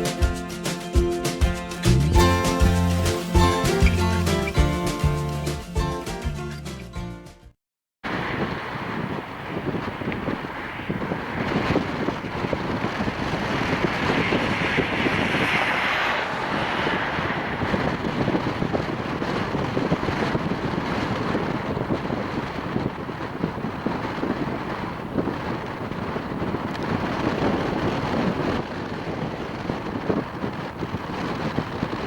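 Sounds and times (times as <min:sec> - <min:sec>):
wind buffeting microphone: 0:01.8 - 0:05.0, 0:08.0 - 0:32.0.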